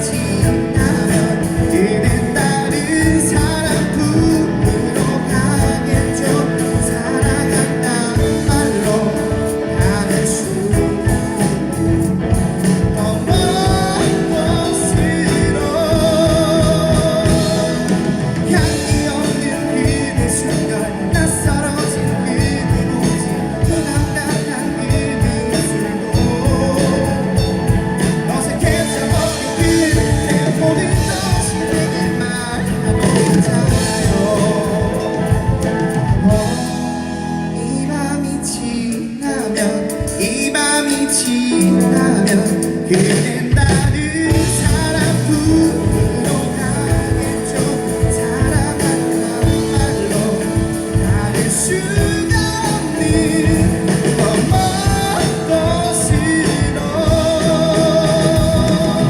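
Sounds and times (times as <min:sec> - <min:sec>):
person singing: 0:00.0 - 0:59.0
rock band playing: 0:00.0 - 0:59.0.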